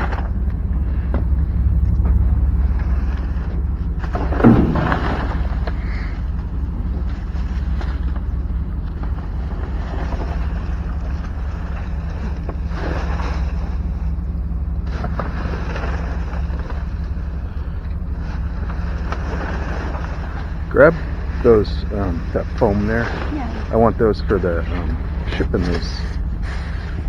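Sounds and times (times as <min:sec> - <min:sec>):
low engine rumble: 0:00.0 - 0:27.0.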